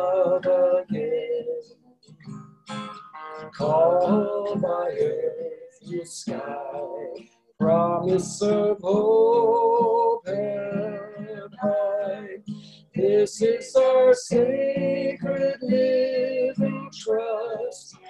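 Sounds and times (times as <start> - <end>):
person singing a hymn: 0.0 - 1.7, 3.4 - 18.0
guitar accompaniment: 0.0 - 18.0.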